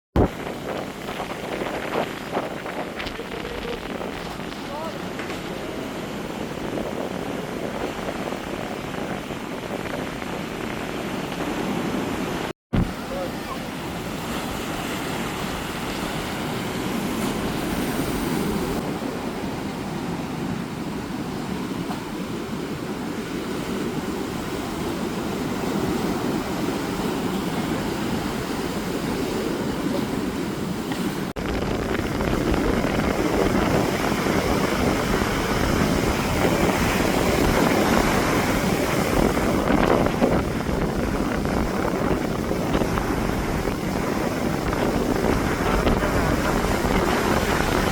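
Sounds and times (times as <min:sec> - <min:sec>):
ocean surf breaking: 0:00.2 - 0:47.9.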